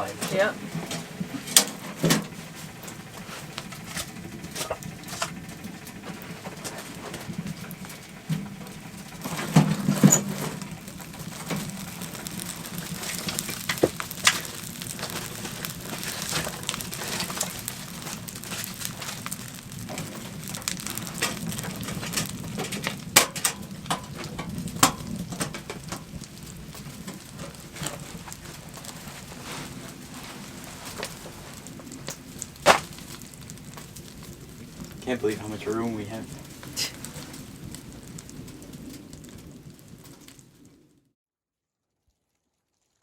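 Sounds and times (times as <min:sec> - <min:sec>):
wood fire crackling: 0:00.0 - 0:41.2.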